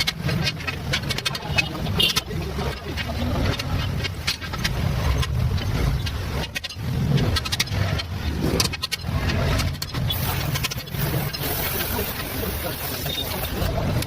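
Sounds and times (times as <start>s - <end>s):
sharp clicks: 0.0s - 12.3s
engine uneven low rumble: 0.0s - 14.0s.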